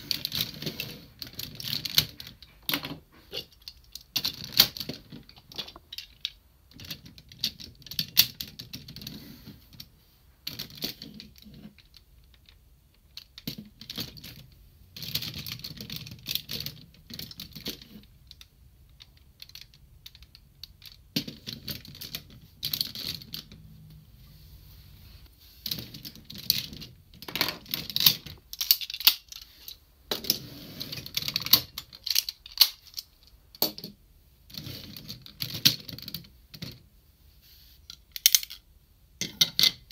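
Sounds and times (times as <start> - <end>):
plastic toy parts clicking: 0.1 - 9.1, 9.8 - 23.6, 25.6 - 30.3, 31.0 - 34.0, 37.9 - 39.9.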